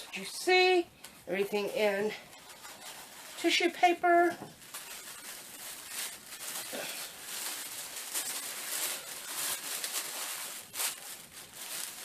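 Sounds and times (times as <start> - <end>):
tissue paper rustling: 0.5 - 12.0.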